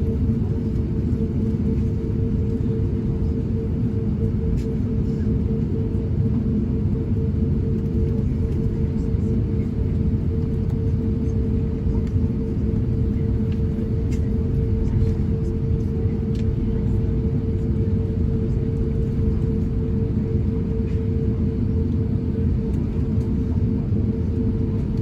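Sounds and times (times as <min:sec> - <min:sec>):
aircraft cabin rumble: 0:00.0 - 0:25.0.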